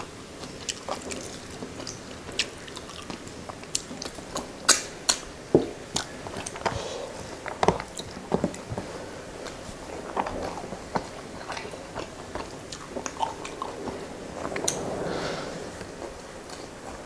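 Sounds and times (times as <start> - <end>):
wet chewing: 0.4 - 5.2, 5.9 - 14.8.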